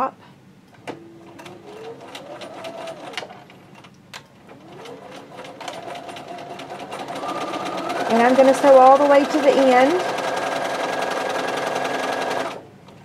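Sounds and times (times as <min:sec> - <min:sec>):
sewing machine stitching: 0:01.2 - 0:03.8, 0:04.4 - 0:12.6.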